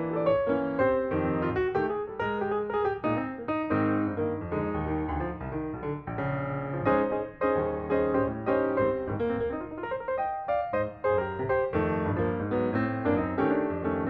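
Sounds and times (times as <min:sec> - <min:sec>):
instrumental piano music: 0:00.0 - 0:14.0.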